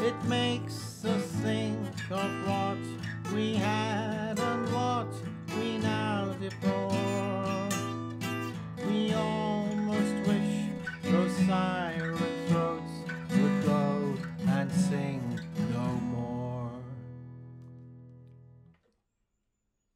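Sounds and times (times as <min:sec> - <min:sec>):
acoustic guitar playing: 0:00.0 - 0:18.8.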